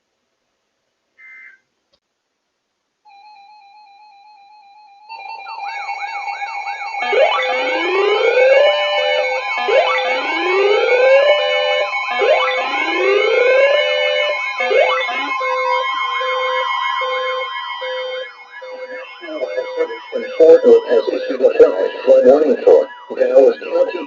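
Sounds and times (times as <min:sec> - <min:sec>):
pulsing alarm tones: 0:03.1 - 0:24.0
siren yelp warble: 0:03.2 - 0:24.0
siren wails: 0:04.3 - 0:24.0.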